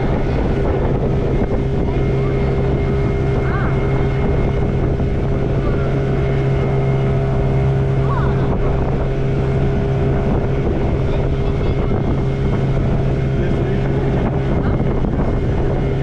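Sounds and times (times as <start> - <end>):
motorboat engine droning: 0.0 - 16.0
wind on microphone: 0.0 - 16.0.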